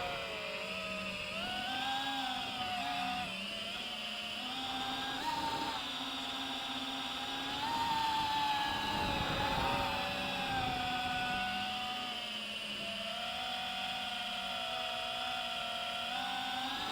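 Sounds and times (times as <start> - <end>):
drone motors whining: 0.0 - 16.9.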